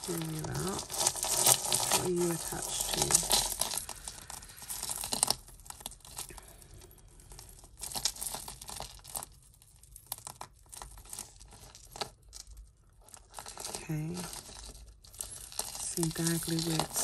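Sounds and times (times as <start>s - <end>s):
jewellery chains rustling and clicking: 0.0s - 17.0s.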